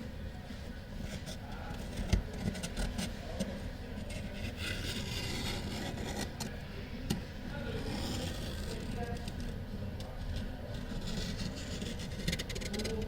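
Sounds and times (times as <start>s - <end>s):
steady low hum: 0.0s - 13.0s
tool scraping phone frame: 1.0s - 9.5s, 10.3s - 13.0s.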